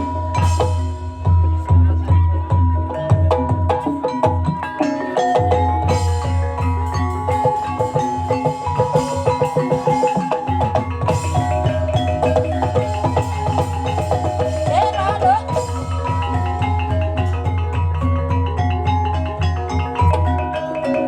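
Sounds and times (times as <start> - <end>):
ringing metallophone notes: 0.0 - 21.0.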